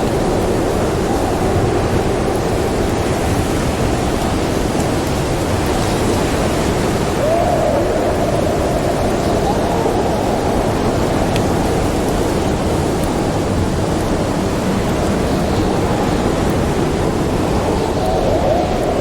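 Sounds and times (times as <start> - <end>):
howling wind gust: 0.0 - 19.0
snowstorm wind rushing: 0.0 - 19.0
wood fire crackling: 0.0 - 19.0.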